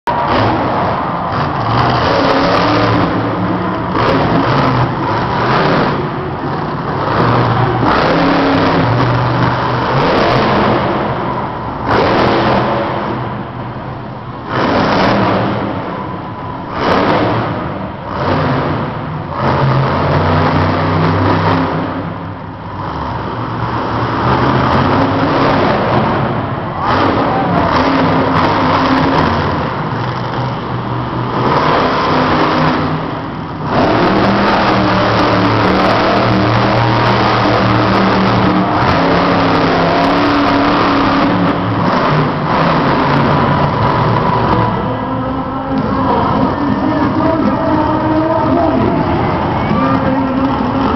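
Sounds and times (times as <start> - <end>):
truck engine revving: 0.0 - 50.9.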